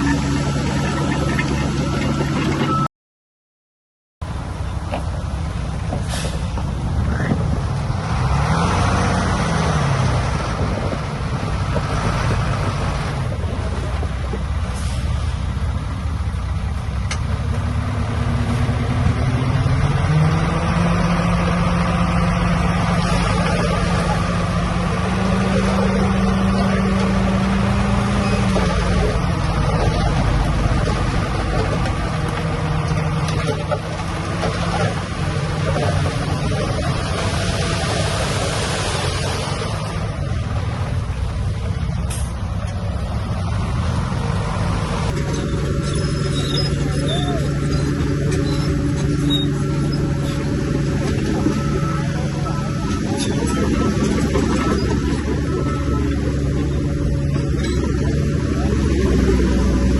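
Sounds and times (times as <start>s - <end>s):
heavy diesel machinery engine: 0.0s - 2.9s, 4.2s - 59.9s.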